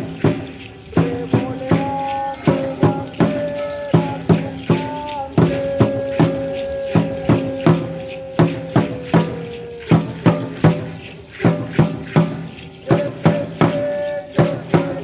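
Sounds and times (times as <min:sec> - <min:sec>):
held melodic notes: 0:00.0 - 0:15.0
rattling jingle: 0:00.0 - 0:15.0.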